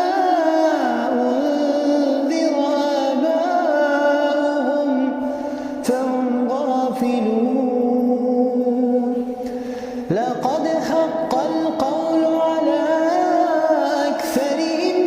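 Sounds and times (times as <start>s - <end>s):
person chanting melodically: 0.0s - 9.4s, 10.1s - 15.0s.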